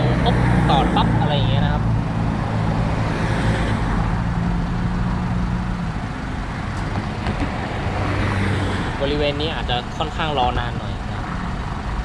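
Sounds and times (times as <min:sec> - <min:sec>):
road noise rushing: 0:00.0 - 0:12.0
vehicle engine low hum: 0:00.0 - 0:12.0.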